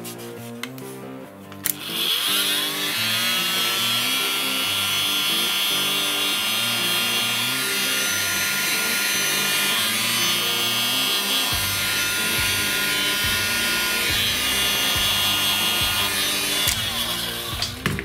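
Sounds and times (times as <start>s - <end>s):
heat gun fan whirring: 1.6s - 18.0s.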